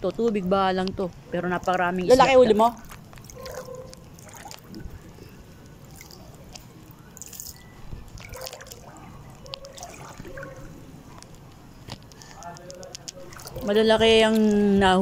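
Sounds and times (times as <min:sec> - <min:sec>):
water lapping and trickling: 0:00.3 - 0:15.0
small drips and splashes: 0:01.5 - 0:15.0.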